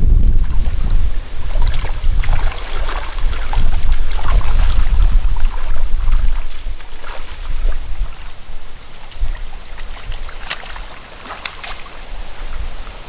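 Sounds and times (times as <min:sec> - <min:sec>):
low wind rumble on microphone: 0:00.0 - 0:13.0
splashing in muddy water: 0:00.0 - 0:13.0.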